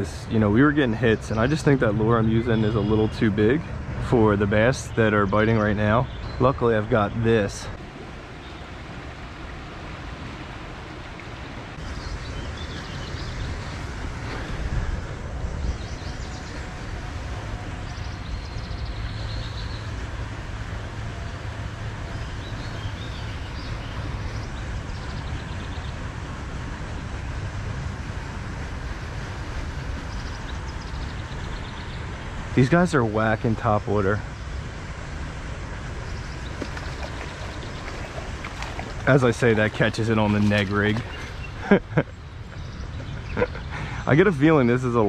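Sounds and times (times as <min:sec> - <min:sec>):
distant traffic rumble: 0:00.0 - 0:45.0.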